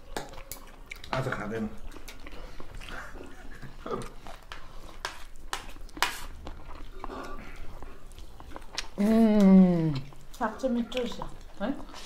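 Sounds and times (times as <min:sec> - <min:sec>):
mouth smacks of eating: 0:00.0 - 0:12.0.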